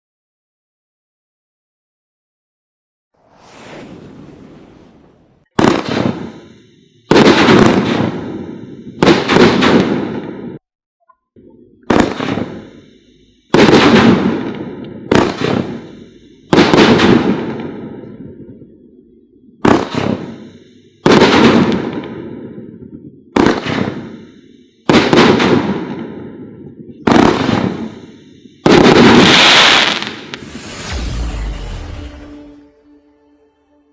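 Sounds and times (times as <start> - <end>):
fireworks booming with echo: 3.2 - 10.6, 11.4 - 32.7.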